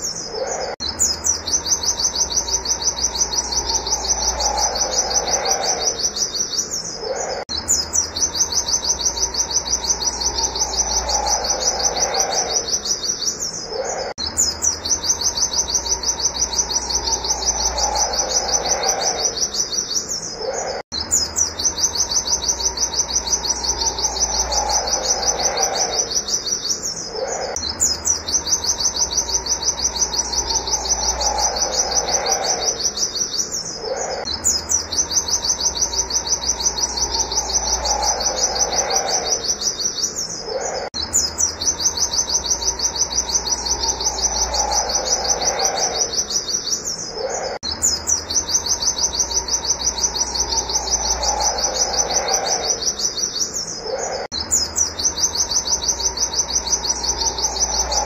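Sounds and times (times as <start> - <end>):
faint steady hum: 0.0 - 58.0
white-eye bird singing: 0.0 - 58.0.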